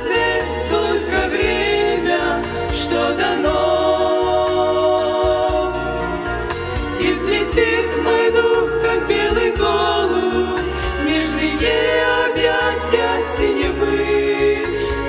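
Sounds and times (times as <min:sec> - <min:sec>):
instrumental accompaniment: 0:00.0 - 0:15.0
women singing a hymn: 0:00.0 - 0:15.0.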